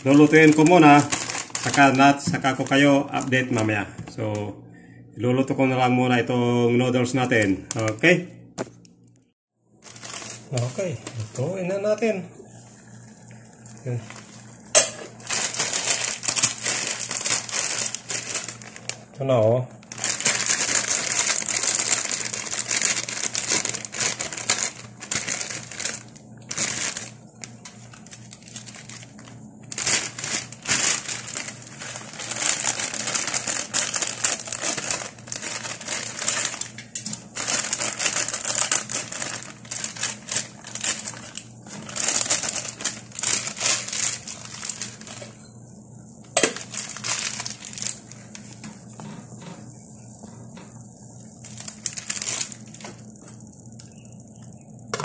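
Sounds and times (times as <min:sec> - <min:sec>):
plastic packaging crinkling: 0:00.0 - 0:04.4, 0:07.2 - 0:08.2, 0:09.7 - 0:11.6, 0:13.8 - 0:45.4, 0:46.3 - 0:55.0.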